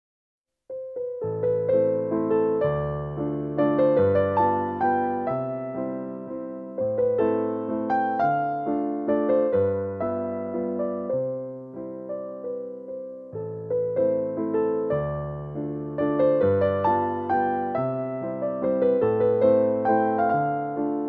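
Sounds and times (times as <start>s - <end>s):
gentle piano-like keyboard melody: 0.7s - 21.0s.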